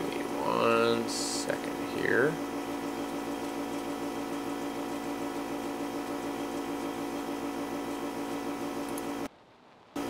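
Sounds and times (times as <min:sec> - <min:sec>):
electrical hum: 0:00.0 - 0:09.3.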